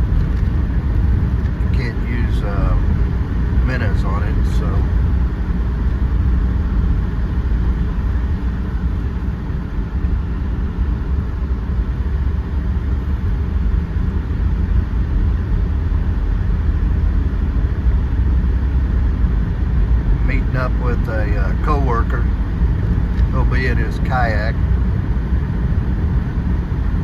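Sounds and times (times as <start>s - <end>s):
vehicle engine and road noise: 0.0s - 27.0s.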